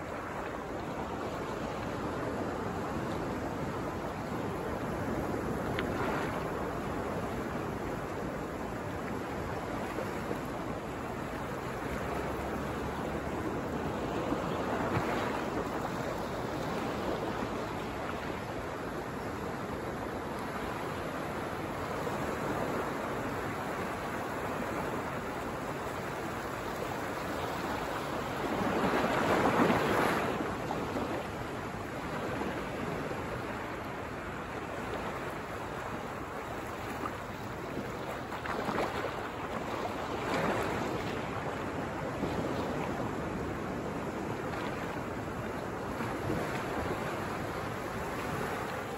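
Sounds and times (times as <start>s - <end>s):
waves breaking on a beach: 0.0s - 48.9s.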